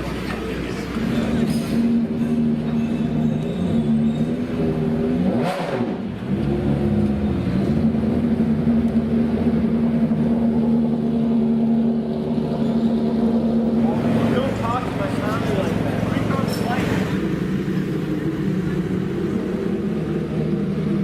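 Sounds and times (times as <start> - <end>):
race car engine running high: 0.0 - 21.0.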